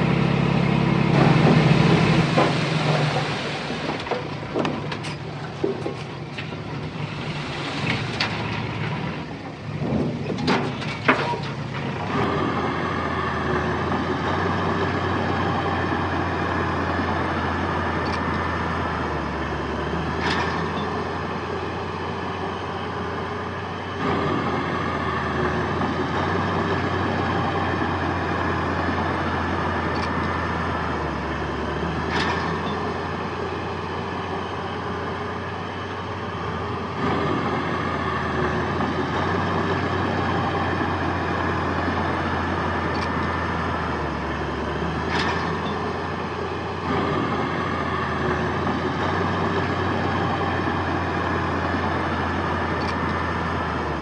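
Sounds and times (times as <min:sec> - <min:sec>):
diesel engine drone: 0:00.0 - 0:54.0.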